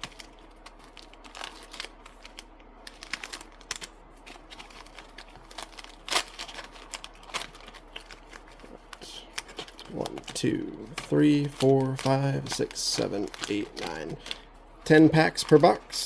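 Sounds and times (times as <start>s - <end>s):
cardboard packs clicking and crinkling: 0.0s - 16.0s.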